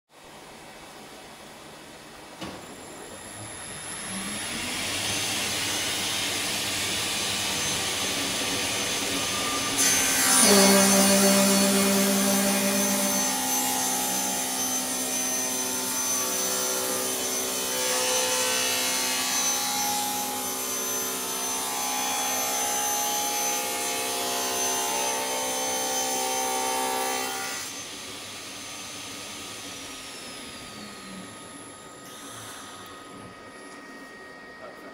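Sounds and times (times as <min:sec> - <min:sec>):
panel saw running: 0:02.6 - 0:34.8
saw cutting wood: 0:03.6 - 0:33.6.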